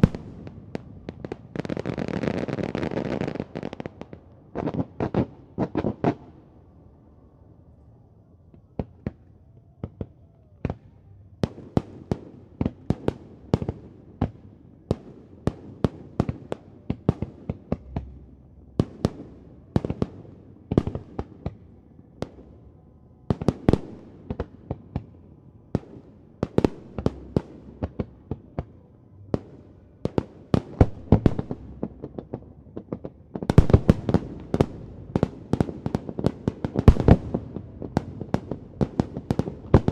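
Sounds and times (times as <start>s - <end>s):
fireworks bangs and crackles: 0.0s - 6.4s, 8.6s - 39.9s.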